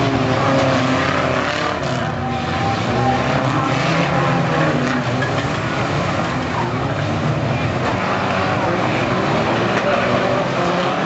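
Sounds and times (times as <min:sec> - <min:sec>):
racing car engines revving: 0:00.0 - 0:11.0.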